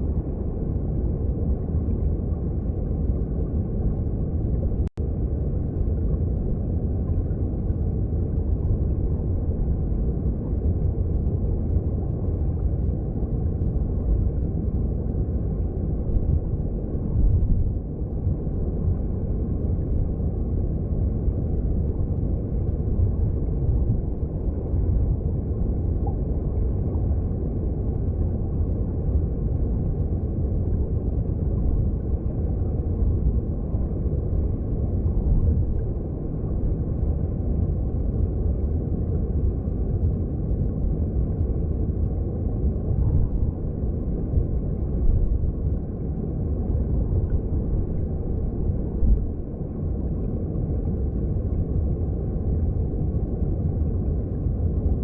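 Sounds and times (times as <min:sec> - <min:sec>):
muffled underwater stream rush: 0:00.0 - 0:55.0.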